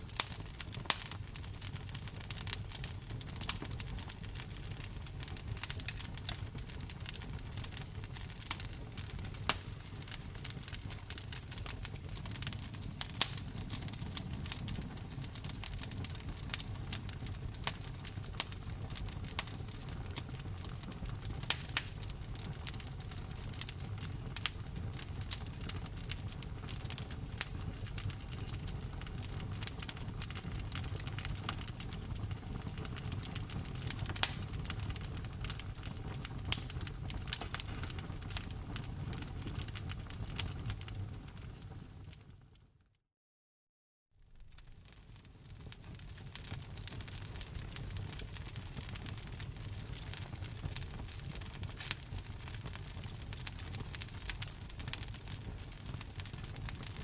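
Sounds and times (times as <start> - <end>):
low rumble of flames: 0.0 - 42.6, 44.2 - 57.0
wood fire crackling and popping: 0.0 - 42.7, 44.3 - 57.0.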